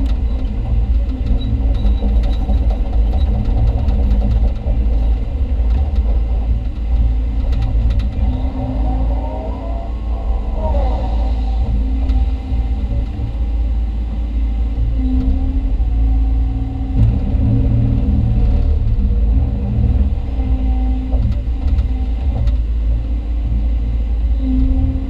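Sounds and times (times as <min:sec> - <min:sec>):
excavator engine and hydraulics rumbling: 0:00.0 - 0:25.0.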